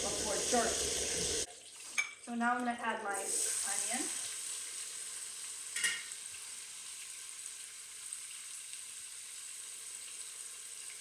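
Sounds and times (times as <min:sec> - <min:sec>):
onion sizzling in oil: 0:00.0 - 0:02.4, 0:03.1 - 0:11.0.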